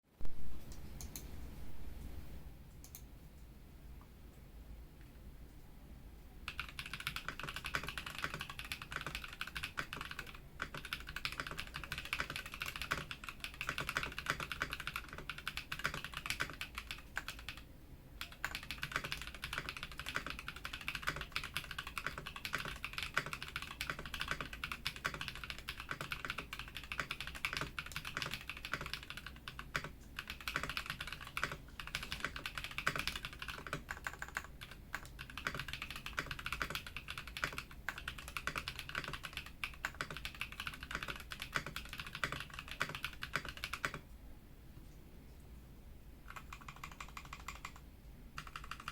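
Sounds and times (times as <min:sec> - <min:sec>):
mechanical keyboard typing: 0:06.5 - 0:44.0, 0:46.3 - 0:47.8, 0:48.4 - 0:48.9.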